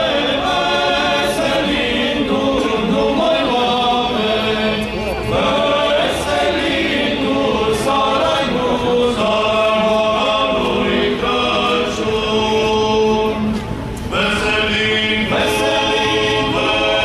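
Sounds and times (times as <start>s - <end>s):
male choir singing a cappella: 0.0s - 17.0s.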